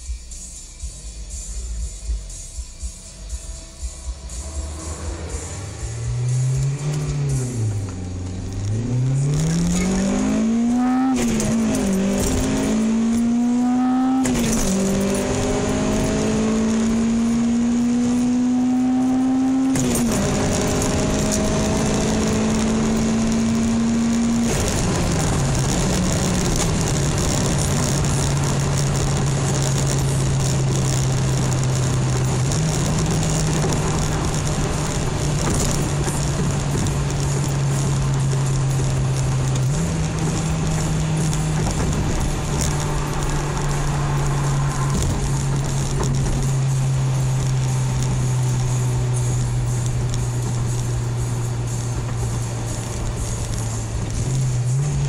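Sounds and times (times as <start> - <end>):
car engine accelerating hard: 2.8 - 55.0.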